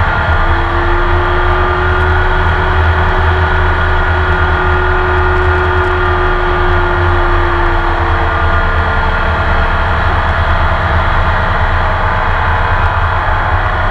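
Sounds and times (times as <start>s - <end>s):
racing engine running loud: 0.0s - 13.9s.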